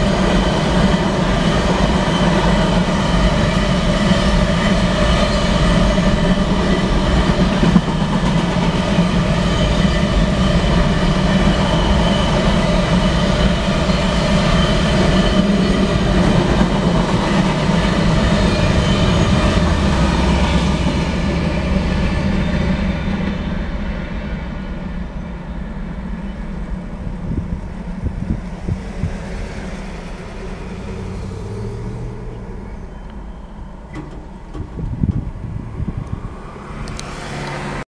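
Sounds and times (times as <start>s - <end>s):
train wheels clacking over rails: 0.0s - 32.9s, 33.8s - 35.4s
diesel locomotive passing: 0.0s - 37.8s.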